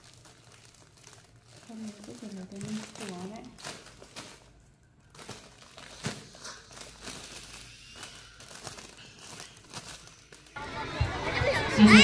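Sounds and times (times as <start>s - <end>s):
gift wrapping paper crinkling: 0.0s - 10.6s.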